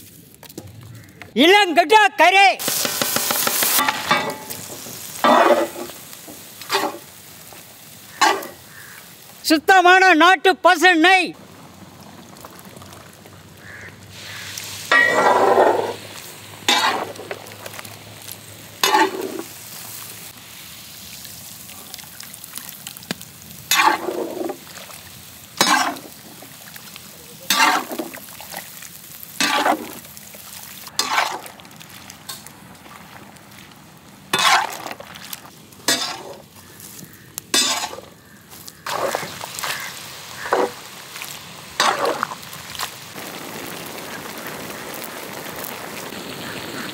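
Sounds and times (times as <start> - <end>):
meat sizzling in a wok: 2.6 - 9.5, 11.4 - 46.9.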